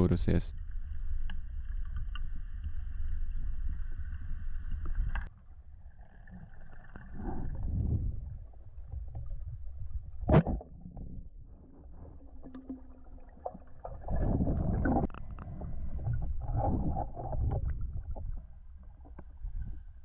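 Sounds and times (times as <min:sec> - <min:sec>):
underwater water rumble: 0:00.0 - 0:20.0.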